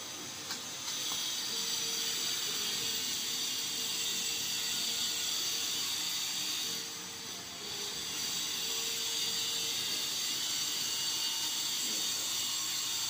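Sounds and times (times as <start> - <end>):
high-pitched mechanical whir: 0.0 - 13.0.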